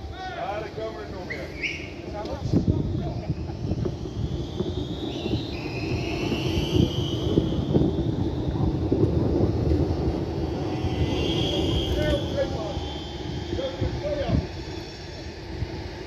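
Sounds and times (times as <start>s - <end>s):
tram high whine rising: 0.0s - 16.0s
tram wheels rumbling on rail: 0.0s - 16.0s.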